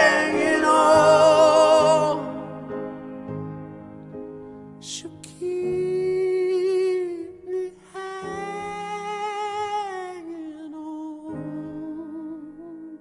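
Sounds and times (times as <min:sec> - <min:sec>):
soft sustained accompaniment: 0:00.0 - 0:10.4.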